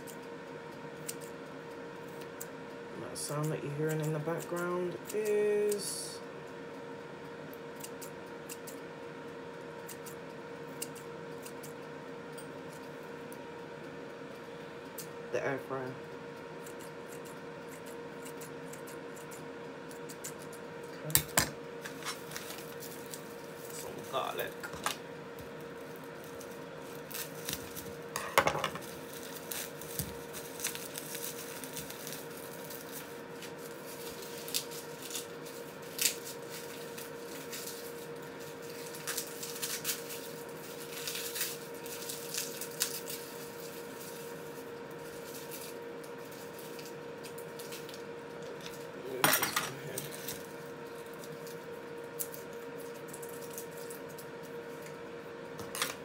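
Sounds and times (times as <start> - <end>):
air fryer humming: 0.0 - 56.0.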